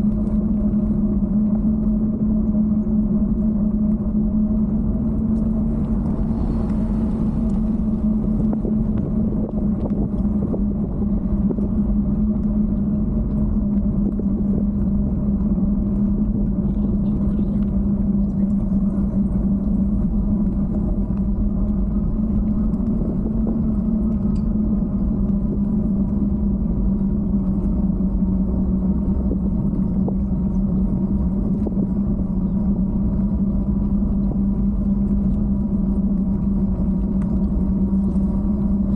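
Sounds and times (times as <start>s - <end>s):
constant low hum: 0.0s - 38.9s
wind and riding noise: 0.0s - 38.9s.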